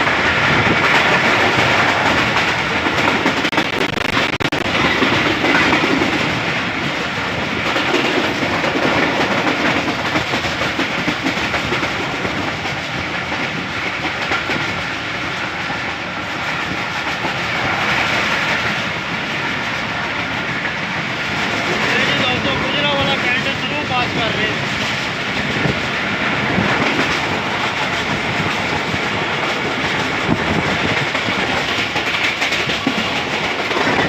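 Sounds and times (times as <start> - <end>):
train rumble: 0.0 - 34.0
wheels clattering over rails: 0.0 - 34.0.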